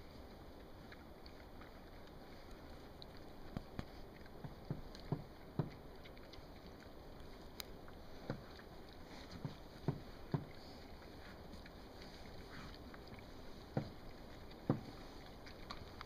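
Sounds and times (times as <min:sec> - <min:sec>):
pigs chewing and rooting: 0:00.0 - 0:16.0.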